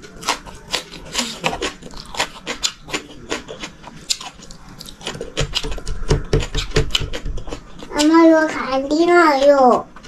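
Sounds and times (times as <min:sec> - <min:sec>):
wet chewing and lip-smacking: 0:00.0 - 0:08.2.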